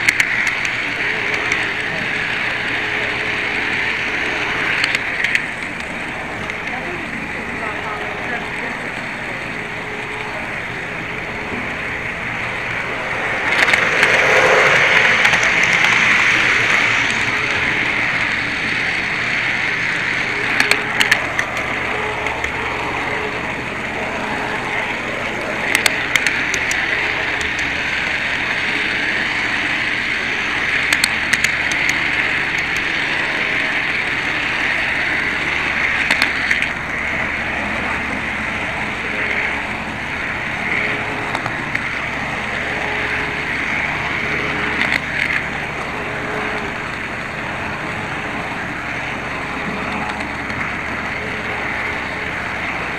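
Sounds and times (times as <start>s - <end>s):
model train wheels rumbling: 0.0s - 52.9s.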